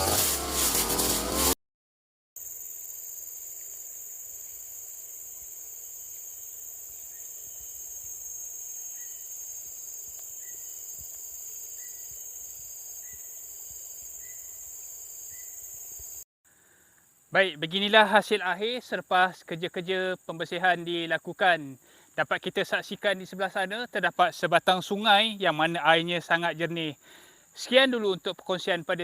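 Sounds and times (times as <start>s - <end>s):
insects droning: 2.4s - 29.0s.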